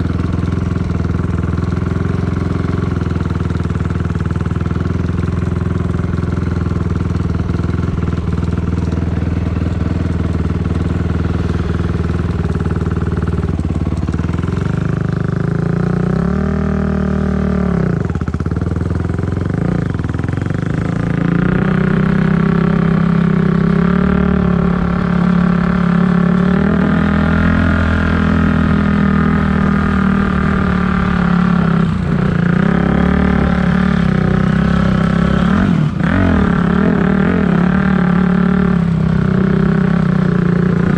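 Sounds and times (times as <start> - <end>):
dirt bike engine revving: 4.7 - 40.9.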